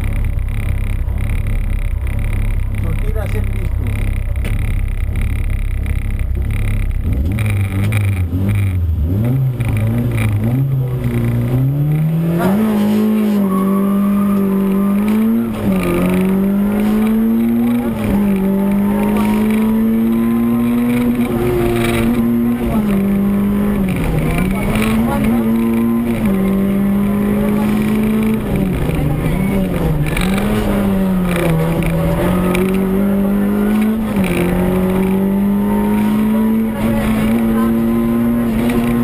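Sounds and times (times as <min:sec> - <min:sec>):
car engine accelerating hard: 0:00.0 - 0:39.0.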